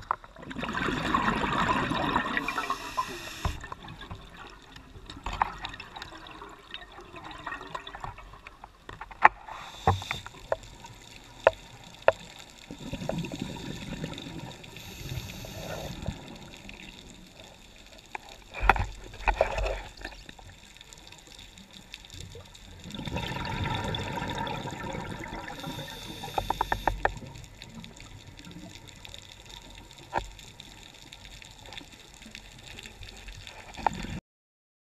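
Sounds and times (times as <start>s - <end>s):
underwater bubbles rushing: 0.0s - 8.7s, 9.5s - 34.2s.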